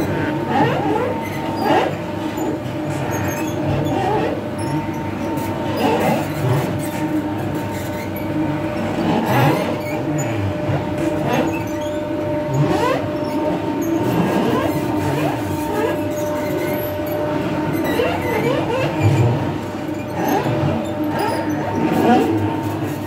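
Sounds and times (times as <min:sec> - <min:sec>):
oil mill mechanical hum: 0:00.0 - 0:23.0.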